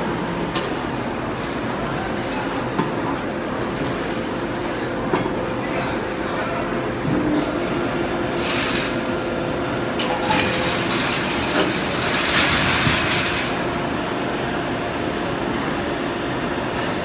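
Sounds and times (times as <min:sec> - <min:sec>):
factory machinery drone: 0:00.0 - 0:17.0.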